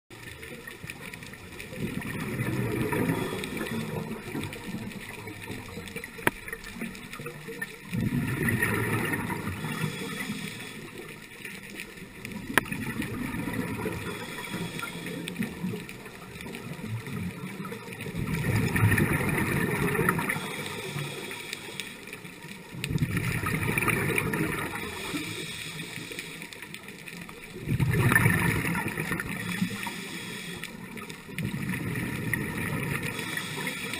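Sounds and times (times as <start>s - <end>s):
exhaled bubbles gurgling underwater: 0.1s - 33.9s
muffled underwater breathing: 1.3s - 6.8s, 8.5s - 11.8s, 12.5s - 16.5s, 18.2s - 22.7s, 23.5s - 33.9s.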